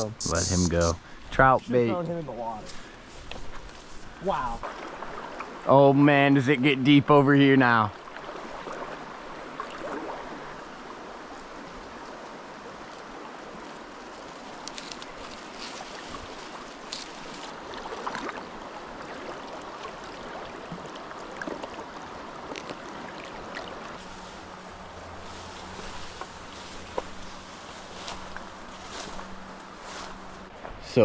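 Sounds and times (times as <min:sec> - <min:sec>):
stream water rushing: 0:04.0 - 0:30.6.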